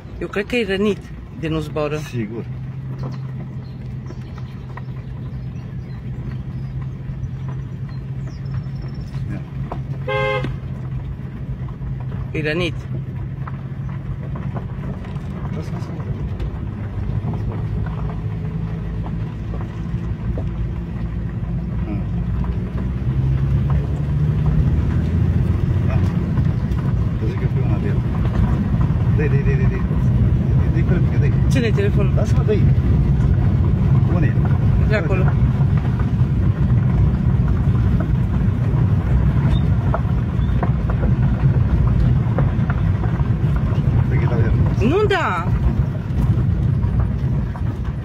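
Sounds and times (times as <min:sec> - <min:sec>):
car engine hum: 0:00.0 - 0:48.0
tyres rolling on gravel: 0:00.0 - 0:48.0.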